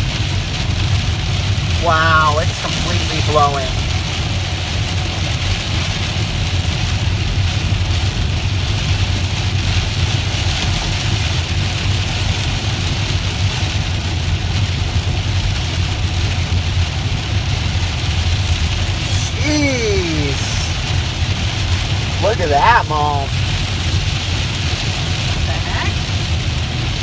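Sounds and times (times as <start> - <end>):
car engine and road rumble: 0.0 - 19.4, 20.2 - 27.0
heavy rain on car: 0.0 - 27.0.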